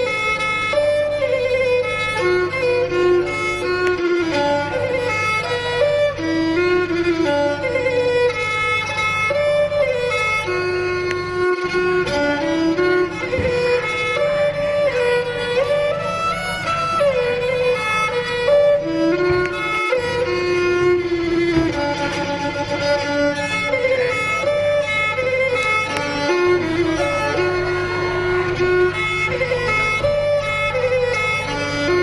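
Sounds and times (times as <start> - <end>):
sliding melody: 0.0 - 32.0
steady low drone: 0.0 - 32.0.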